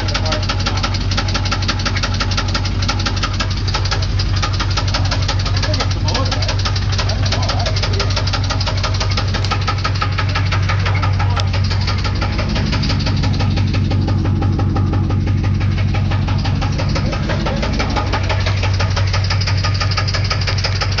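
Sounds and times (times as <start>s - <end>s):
car engine idling: 0.0s - 21.0s
fast even engine knocking: 0.0s - 21.0s.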